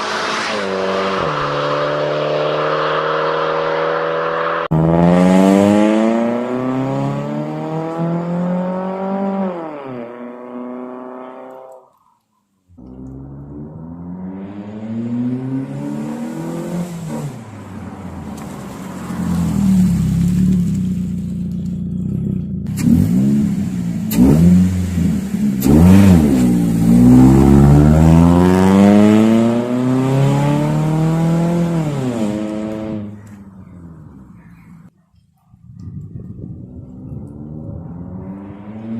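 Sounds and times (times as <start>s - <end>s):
car engine revving: 0.0s - 11.8s, 12.8s - 34.9s, 35.6s - 38.9s.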